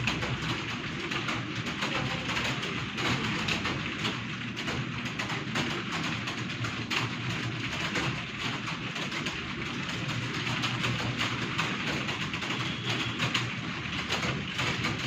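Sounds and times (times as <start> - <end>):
many keyboards typing: 0.0 - 15.0.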